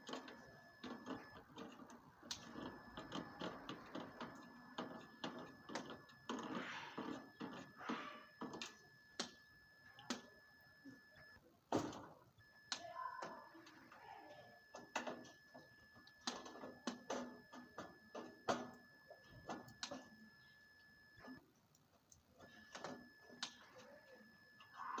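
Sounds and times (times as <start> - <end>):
faint high whine: 0.0 - 11.6, 12.2 - 21.4, 22.4 - 25.0.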